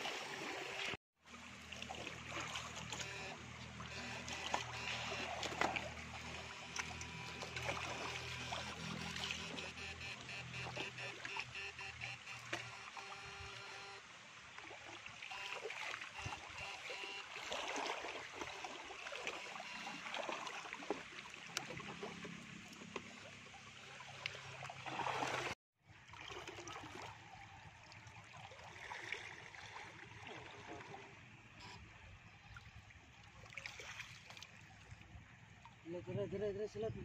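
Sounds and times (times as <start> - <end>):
river water splashing: 0.0 - 35.8.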